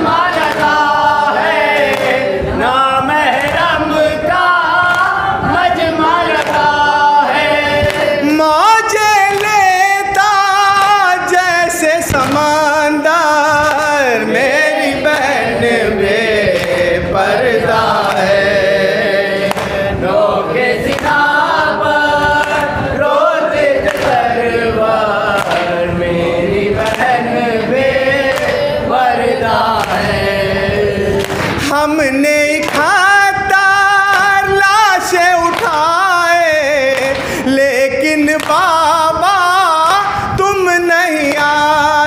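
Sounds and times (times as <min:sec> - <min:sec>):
man chanting a lament: 0:00.0 - 0:42.0.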